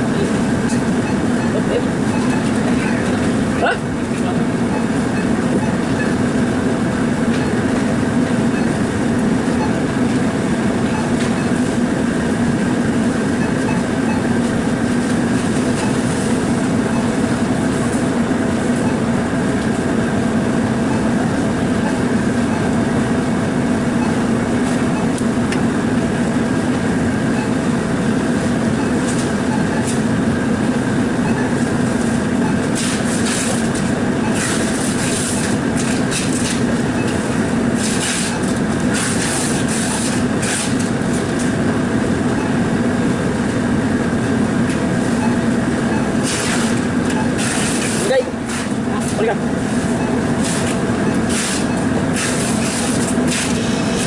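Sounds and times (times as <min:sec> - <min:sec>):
mechanical drone with low hum: 0:00.0 - 0:54.0.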